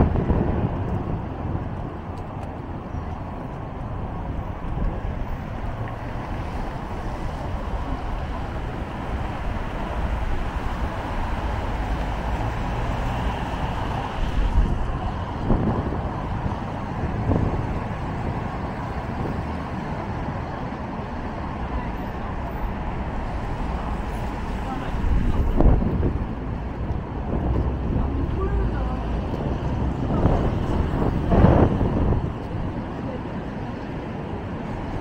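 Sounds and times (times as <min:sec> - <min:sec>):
passing traffic: 0:00.0 - 0:35.0
wind buffeting microphone: 0:00.0 - 0:35.0.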